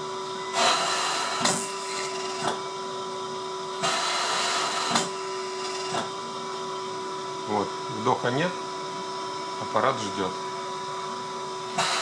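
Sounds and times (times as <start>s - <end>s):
blower hum: 0.0s - 12.0s.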